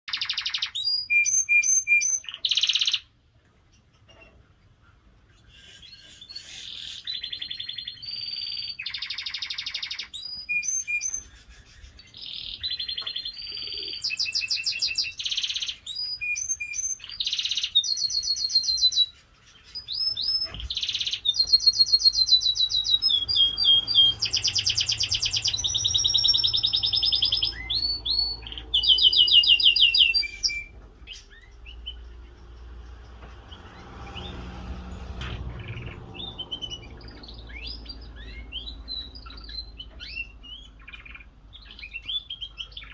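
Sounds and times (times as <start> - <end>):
canary singing trills: 0.1 - 42.9.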